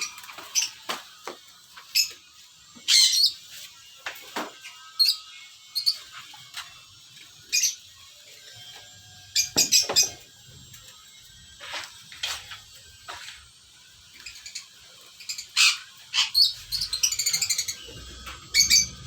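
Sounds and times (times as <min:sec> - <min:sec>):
parrots chirping and squawking: 0:00.0 - 0:19.0.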